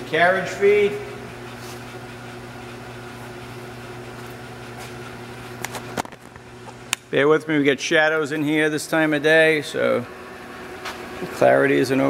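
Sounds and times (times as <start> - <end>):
lathe humming: 0.0 - 12.0.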